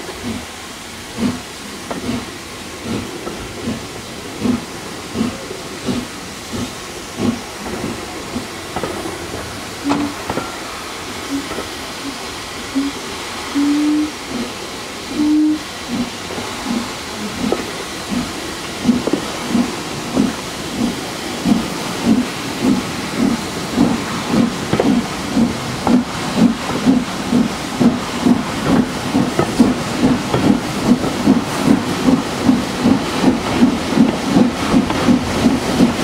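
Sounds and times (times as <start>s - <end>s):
steam hissing: 0.0s - 36.0s
steam locomotive exhaust chuffing: 0.0s - 36.0s.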